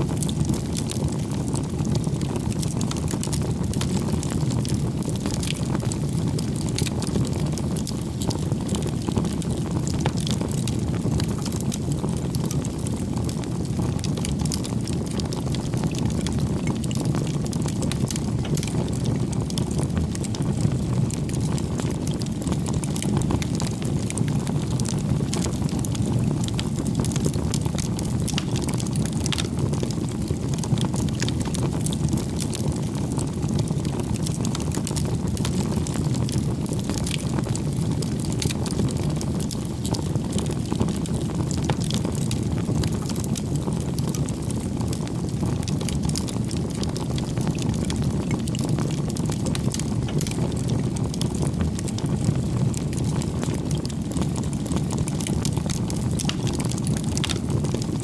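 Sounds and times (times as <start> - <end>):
burning wood crackling and popping: 0.0 - 58.0
campfire flames rushing: 0.0 - 58.0.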